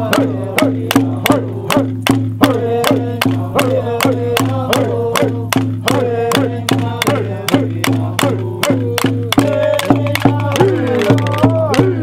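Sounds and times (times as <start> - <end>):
voices singing gliding notes: 0.0 - 12.0.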